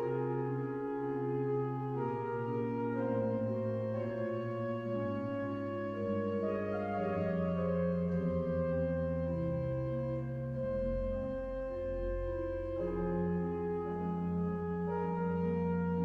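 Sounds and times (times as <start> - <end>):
deep organ pedal note: 0.0 - 16.0
pipe organ chords: 0.0 - 16.0.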